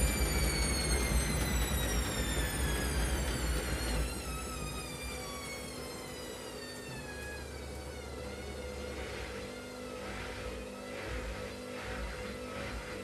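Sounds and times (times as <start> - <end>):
washing machine motor whine: 0.0 - 13.0.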